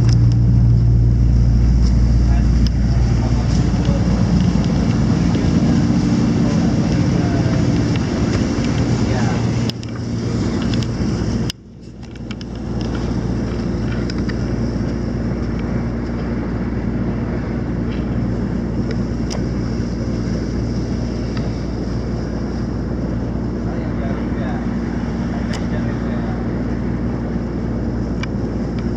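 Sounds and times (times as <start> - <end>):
boat engine droning: 0.0 - 28.9.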